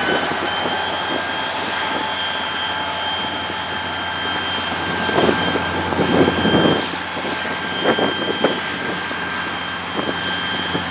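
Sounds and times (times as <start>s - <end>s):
diesel locomotive engines droning: 0.0s - 10.9s.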